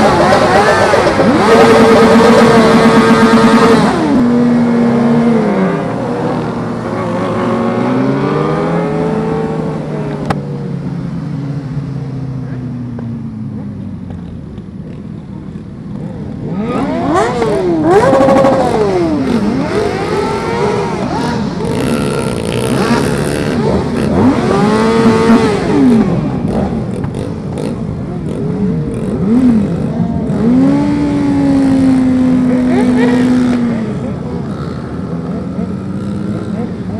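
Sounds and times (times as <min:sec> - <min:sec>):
motorcycle engines revving: 0:00.0 - 0:36.9.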